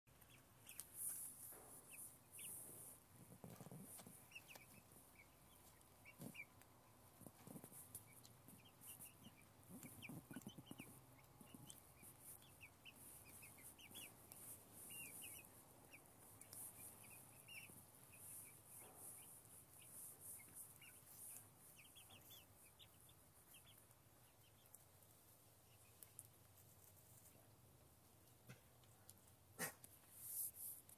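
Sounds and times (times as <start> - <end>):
chickens peeping and clucking: 0.1 - 30.8.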